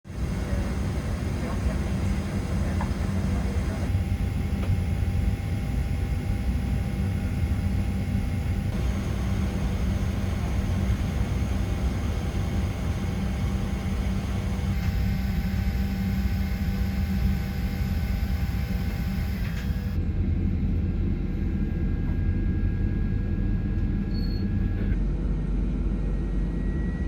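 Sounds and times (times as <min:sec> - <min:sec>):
faint whining tones: 0:00.1 - 0:25.0
airplane cabin low rumble: 0:00.1 - 0:27.0.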